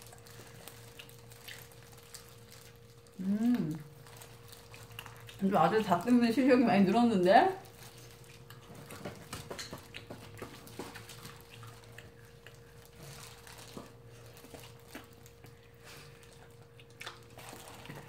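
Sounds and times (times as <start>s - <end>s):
faint steady hum: 0.0s - 18.0s
people chewing food: 0.0s - 18.0s.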